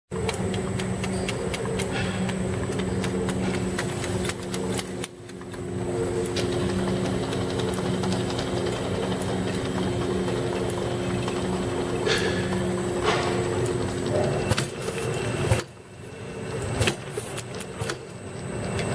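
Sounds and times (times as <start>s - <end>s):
motor and conveyor hum: 0.1s - 18.9s.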